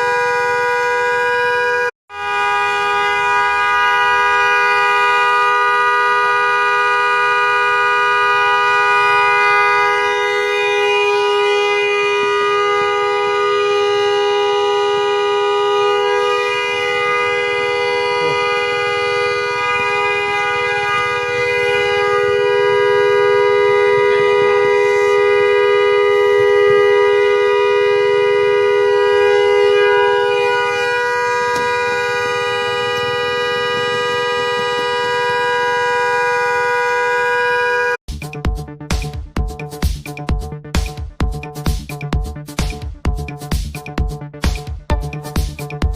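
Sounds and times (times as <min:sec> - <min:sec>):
two-note electric car horn: 0:00.0 - 0:38.0.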